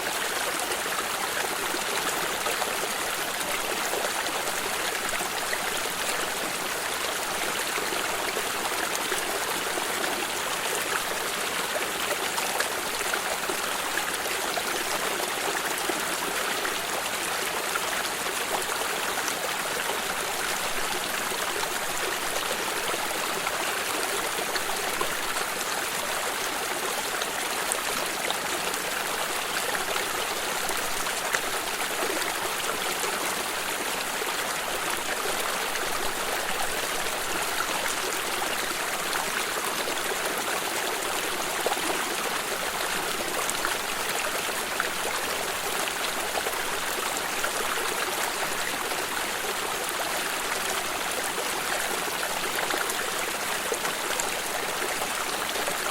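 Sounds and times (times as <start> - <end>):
stream trickling over rocks: 0.0 - 55.9.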